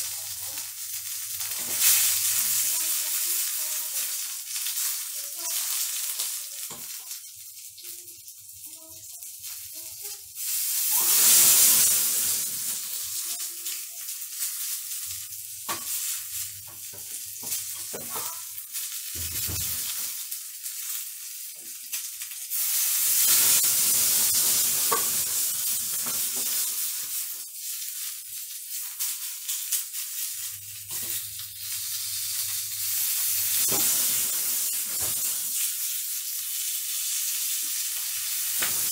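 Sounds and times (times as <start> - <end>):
chicken sizzling in a pan: 0.0 - 38.9.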